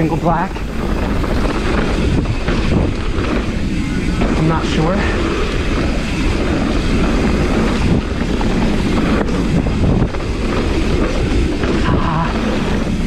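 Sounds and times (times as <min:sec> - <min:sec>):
bike rattling: 0:00.0 - 0:13.0
knobby tyres rumbling: 0:00.0 - 0:13.0
wind buffeting microphone: 0:00.0 - 0:13.0.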